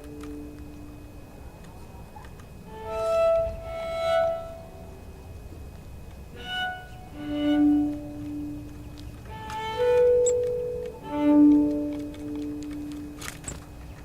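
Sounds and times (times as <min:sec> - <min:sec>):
slow violin melody: 0:00.0 - 0:01.2, 0:02.6 - 0:13.9.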